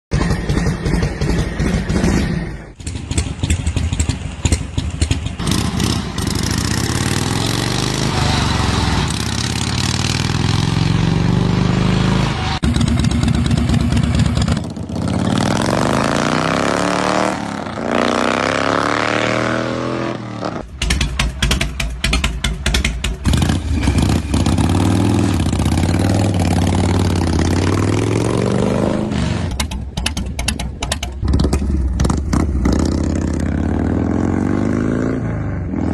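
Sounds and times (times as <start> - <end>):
motorcycle engines revving: 0.1 - 35.9.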